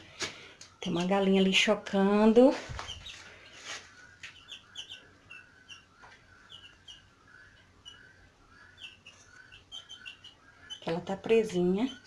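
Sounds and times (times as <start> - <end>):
chicks peeping: 0.2 - 12.0.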